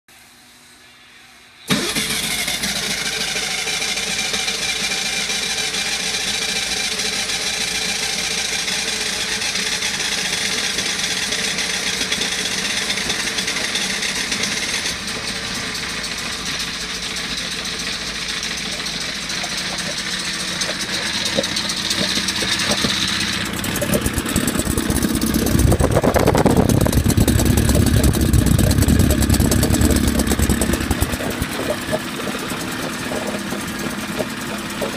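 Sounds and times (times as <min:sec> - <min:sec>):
outboard motor running: 0:01.7 - 0:34.9.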